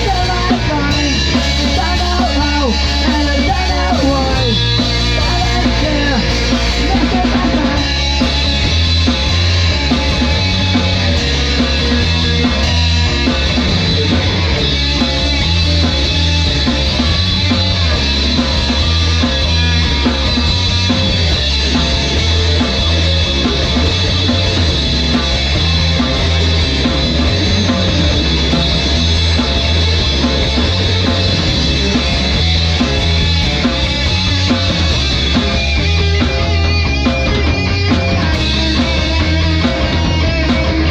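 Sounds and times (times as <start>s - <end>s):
bass line: 0.0s - 40.9s
loud rock music: 0.0s - 40.9s.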